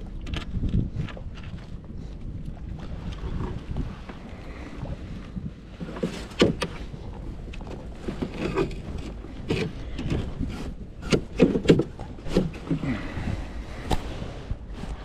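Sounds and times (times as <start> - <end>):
gear knocking aboard kayak: 0.0 - 15.0
low rumble of wind and water: 0.0 - 15.0.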